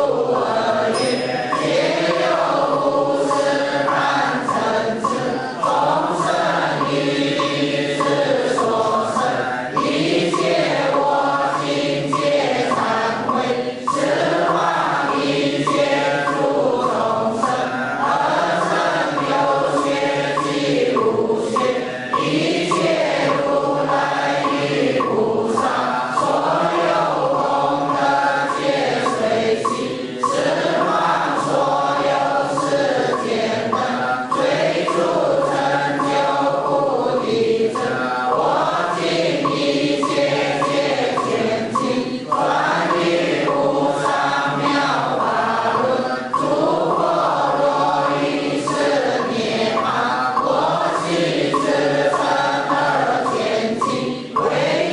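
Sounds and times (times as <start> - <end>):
congregation chanting in unison: 0.0 - 54.9.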